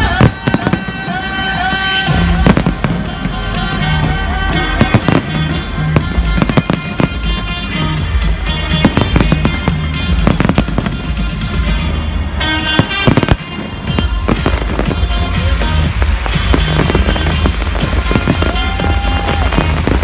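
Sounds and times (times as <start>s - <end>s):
fireworks banging and crackling: 0.0s - 20.0s
loud music with bass beat: 0.0s - 20.0s.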